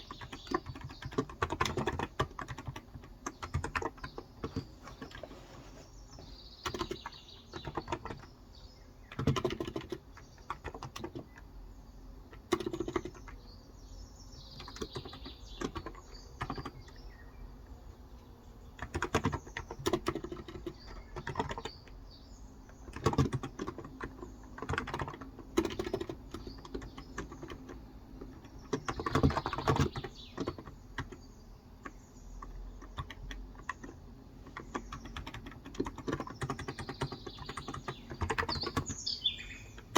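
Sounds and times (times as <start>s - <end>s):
typing on keyboard: 0.0s - 5.3s, 6.6s - 8.4s, 9.0s - 11.5s, 12.2s - 13.5s, 14.6s - 17.0s, 18.6s - 22.0s, 22.6s - 39.9s
birds chirping: 0.0s - 39.9s.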